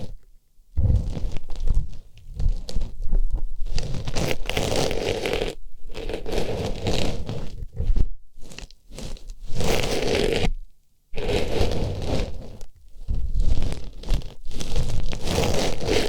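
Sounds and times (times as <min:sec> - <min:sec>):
artificial rose rubbing a microphone: 0:00.0 - 0:16.0.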